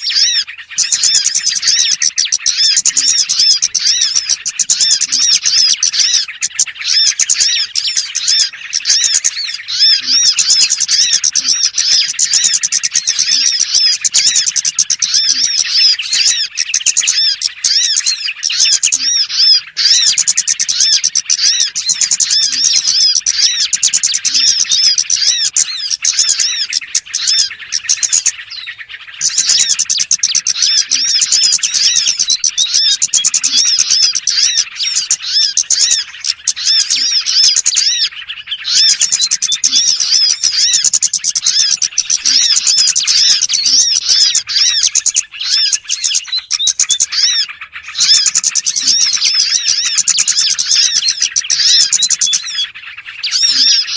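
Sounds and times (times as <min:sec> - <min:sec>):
small songbirds chirping: 0:00.0 - 0:53.9.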